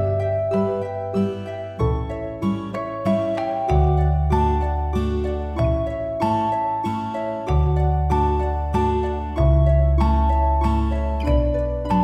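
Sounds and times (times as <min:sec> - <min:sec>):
plucked notes over bass: 0:00.0 - 0:12.0.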